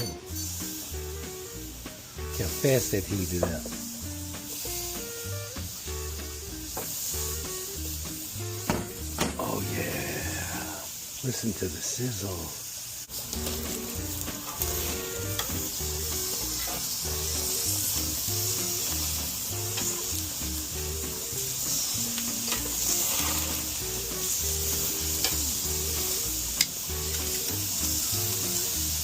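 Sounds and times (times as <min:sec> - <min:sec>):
low music with bass notes: 0:00.0 - 0:10.8, 0:13.3 - 0:29.0
steaks sizzling on a grill: 0:00.0 - 0:29.0.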